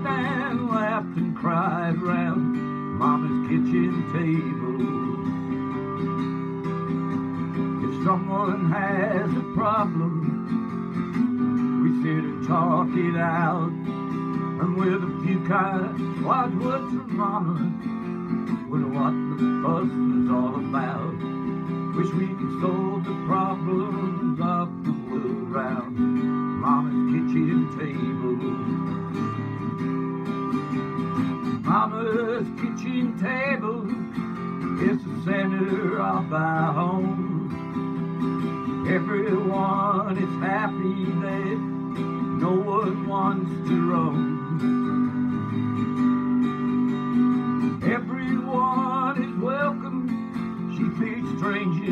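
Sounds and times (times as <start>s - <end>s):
person singing: 0.0s - 6.2s, 7.3s - 17.9s, 18.6s - 29.7s, 31.5s - 34.0s, 34.7s - 46.0s, 47.6s - 51.9s
acoustic guitar strumming: 0.0s - 51.9s.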